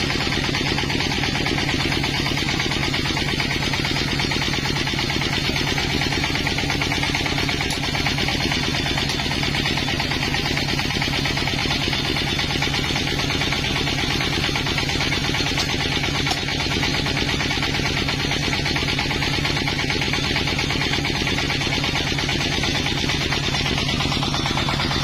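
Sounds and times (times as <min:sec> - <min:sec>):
sawmill engine running: 0:00.0 - 0:25.0.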